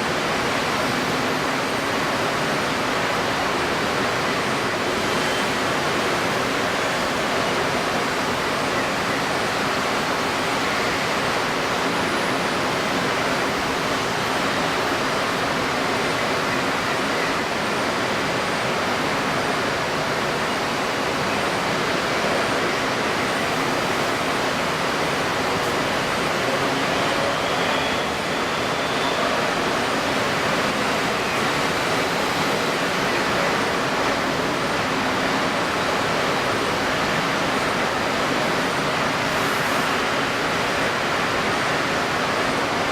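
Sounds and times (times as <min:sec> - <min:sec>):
wind-stirred water: 0:00.0 - 0:42.9.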